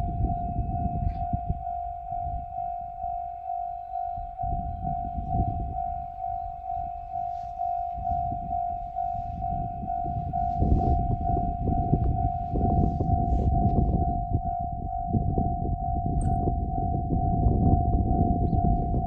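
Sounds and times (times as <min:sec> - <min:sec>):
level crossing warning bell: 0:00.0 - 0:19.0
train passing rumble: 0:00.0 - 0:19.0.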